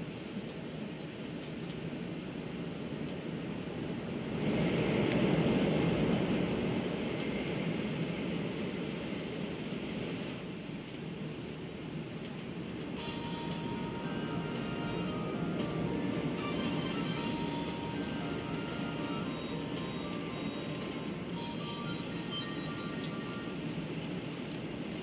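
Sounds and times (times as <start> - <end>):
train running noise inside cabin: 0.0 - 25.0.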